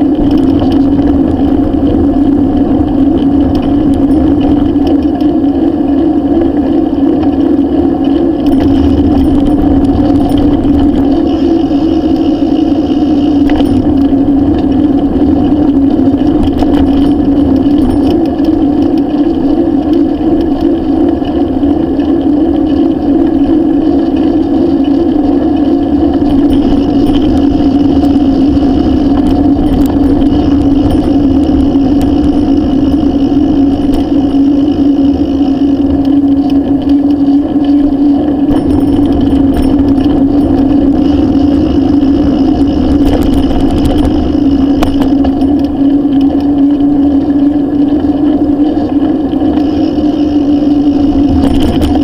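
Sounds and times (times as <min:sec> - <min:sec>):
bicycle road and wind noise: 0:00.0 - 0:52.0.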